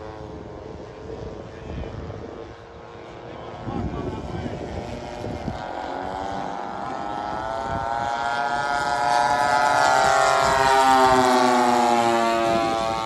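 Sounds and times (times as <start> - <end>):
model plane engines droning: 0.0 - 13.0.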